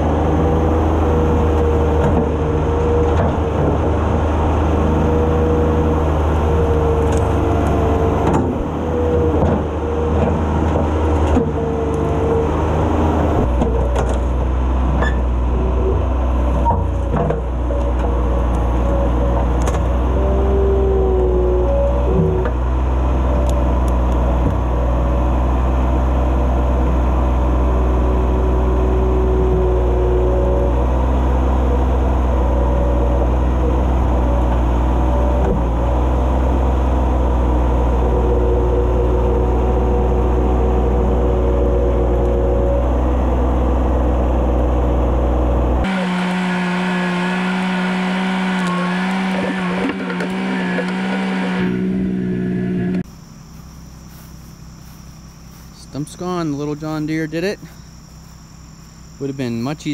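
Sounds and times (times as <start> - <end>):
diesel tractor engine under load: 0.0 - 59.9
higher-pitched engine hum: 0.0 - 59.9.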